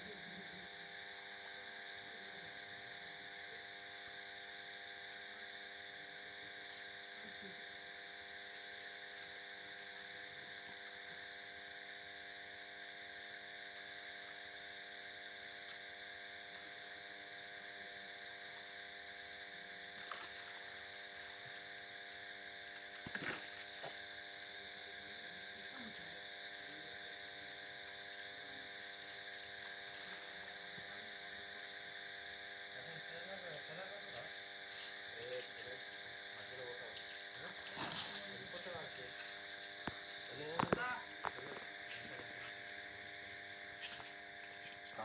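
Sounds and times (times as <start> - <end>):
steady background hum: 0.0 - 45.0.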